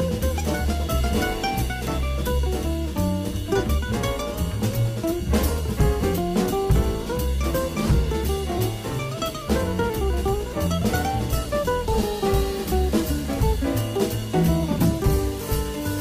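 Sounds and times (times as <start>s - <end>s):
bass line: 0.0s - 16.0s
drum kit beat: 0.0s - 16.0s
jazz music: 0.0s - 16.0s.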